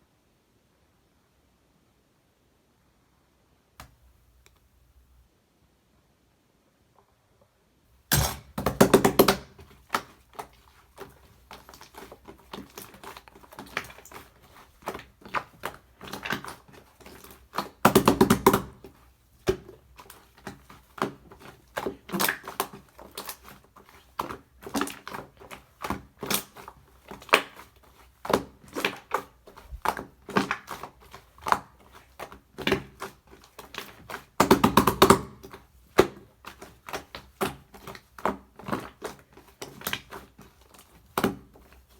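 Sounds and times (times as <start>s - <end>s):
slime squishing with sticky pops: 8.2s - 41.9s.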